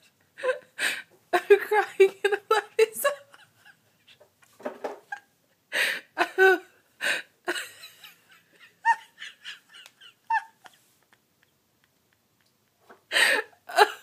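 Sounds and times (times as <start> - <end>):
woman laughing uncontrollably: 1.4 - 6.8, 7.4 - 14.0.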